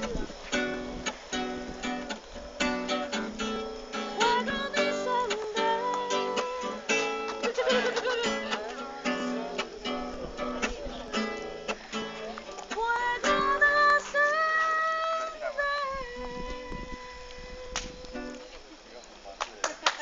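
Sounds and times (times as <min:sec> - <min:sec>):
acoustic guitar strumming chords: 0:00.0 - 0:18.6.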